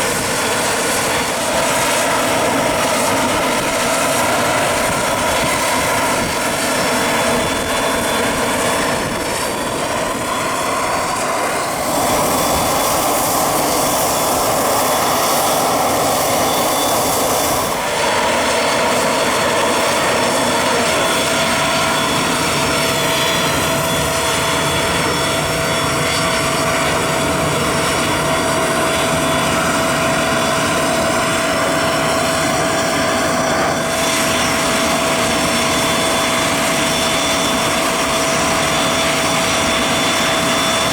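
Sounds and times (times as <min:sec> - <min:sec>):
high-pitched engine whine: 0:00.0 - 0:40.9
turbine engines roaring: 0:00.0 - 0:40.9.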